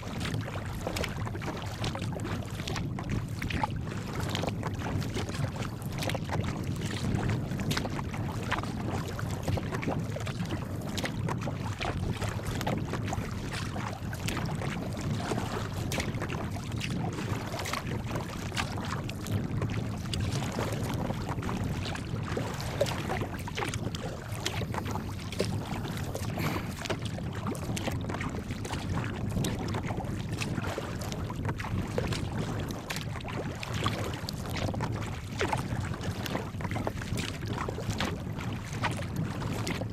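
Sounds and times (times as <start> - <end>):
water slapping against kayak hull: 0.0 - 39.9
wind rumbling on microphone: 0.0 - 39.9.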